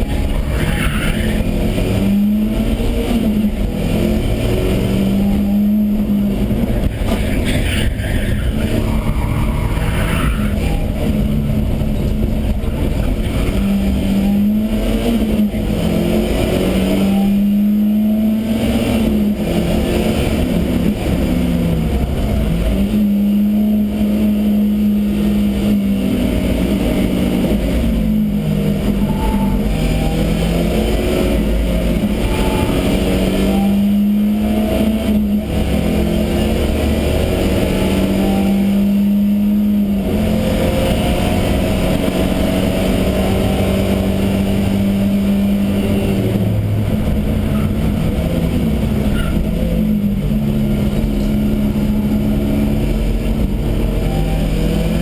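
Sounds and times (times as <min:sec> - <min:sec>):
race car engine accelerating: 0:00.0 - 0:55.0
road and drivetrain rumble: 0:00.0 - 0:55.0.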